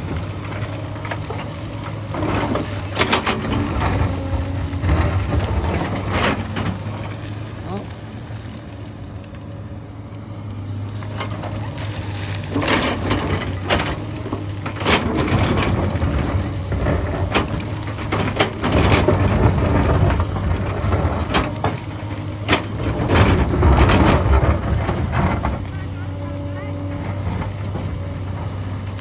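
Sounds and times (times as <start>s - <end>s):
excavator diesel engine: 0.0s - 29.0s
rock and soil crunching: 0.0s - 29.0s.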